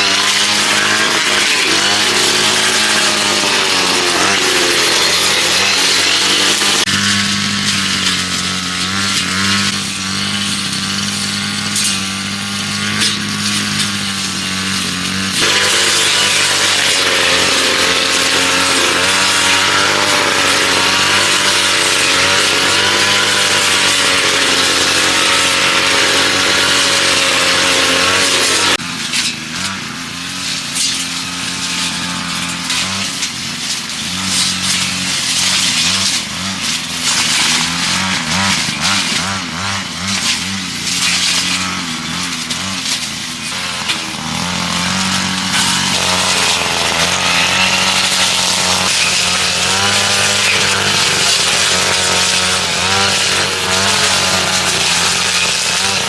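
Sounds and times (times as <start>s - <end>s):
motor running loudly: 0.0s - 33.4s, 37.6s - 56.0s.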